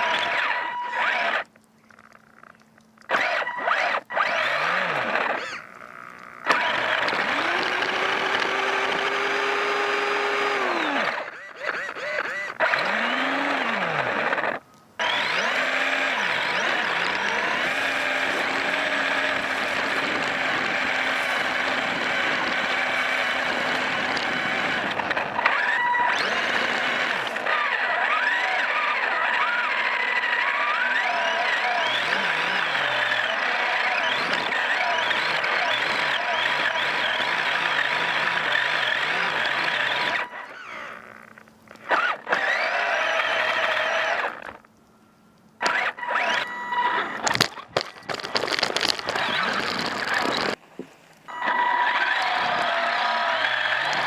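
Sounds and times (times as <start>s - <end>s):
electric motor whining: 0.0s - 1.6s, 2.4s - 44.7s, 45.6s - 50.6s, 51.3s - 54.0s.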